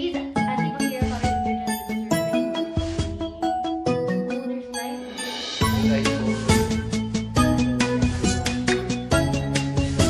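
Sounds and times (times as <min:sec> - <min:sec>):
background music melody: 0:00.0 - 0:10.0.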